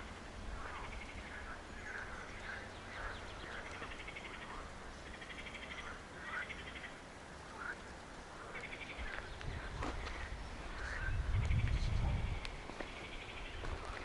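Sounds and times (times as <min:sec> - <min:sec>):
birds chirping and trilling: 0:00.0 - 0:14.0
low steady rumble: 0:00.0 - 0:14.0.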